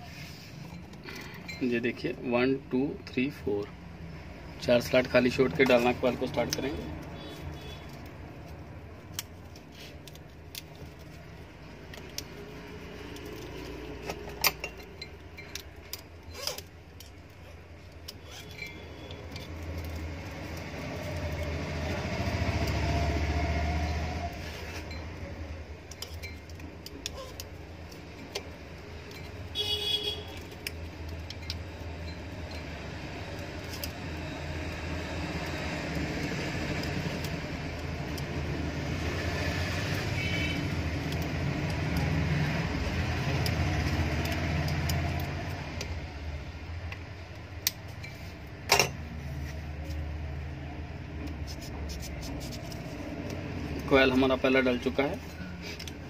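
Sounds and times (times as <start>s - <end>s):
traffic rumble: 0.0s - 56.0s
copper wire clicking and jingling: 3.7s - 49.1s.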